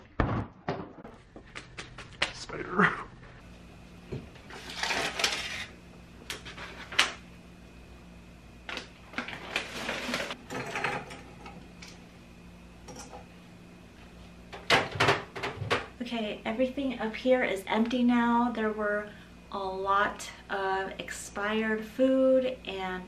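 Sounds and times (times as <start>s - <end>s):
faint steady hum: 1.1s - 23.0s.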